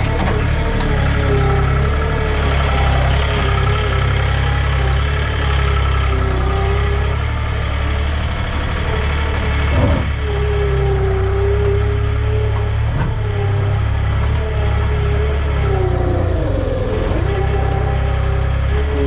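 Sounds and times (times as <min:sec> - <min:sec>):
farm machine engine rumbling: 0:00.0 - 0:19.0.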